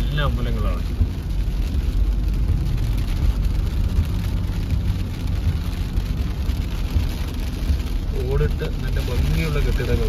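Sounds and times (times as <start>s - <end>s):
car driving on wet road: 0.0s - 10.0s
rain hissing on windscreen: 0.0s - 10.0s.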